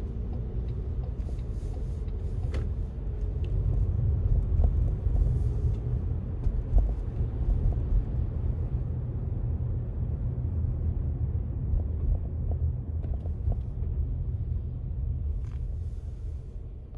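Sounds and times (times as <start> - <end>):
road traffic rumble: 0.0 - 16.9.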